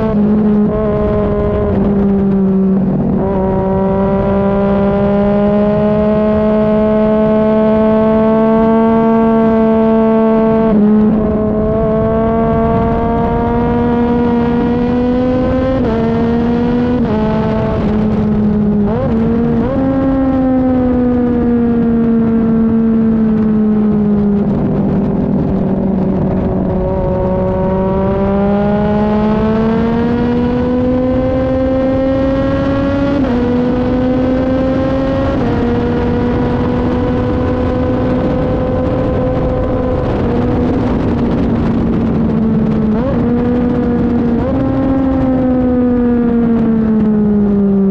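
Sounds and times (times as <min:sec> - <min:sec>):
motorcycle engine revving through gears: 0:00.0 - 0:47.9
wind rush: 0:00.0 - 0:47.9.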